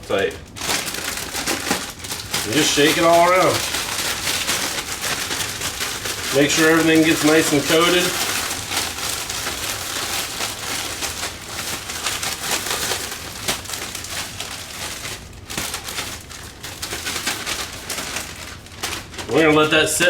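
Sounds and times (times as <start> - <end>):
plastic bag crinkling and rustling: 0.0 - 20.0.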